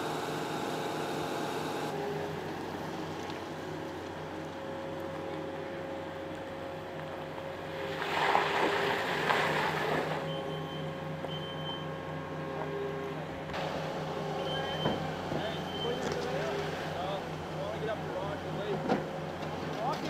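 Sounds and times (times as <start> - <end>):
vehicle engines idling: 0.0 - 8.0, 9.7 - 20.0.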